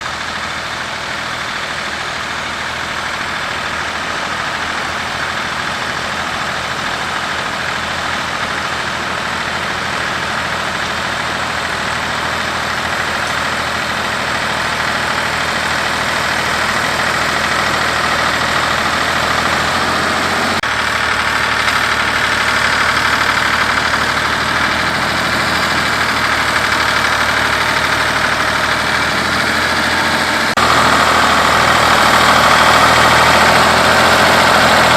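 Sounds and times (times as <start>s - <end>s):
tractor engine running at low revs: 0.0s - 34.9s.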